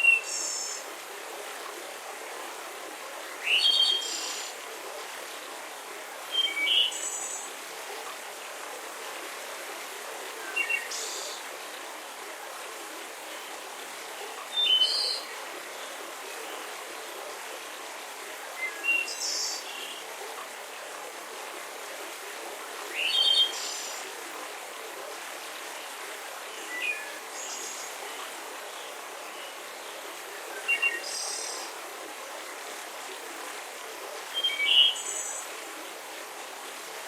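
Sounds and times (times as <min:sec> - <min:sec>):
soft breeze hiss: 0:00.0 - 0:37.0.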